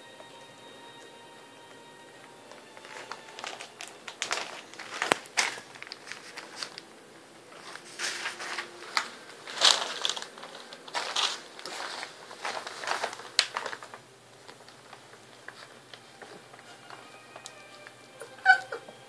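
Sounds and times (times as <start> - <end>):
rustling and crackling: 2.5 - 18.0.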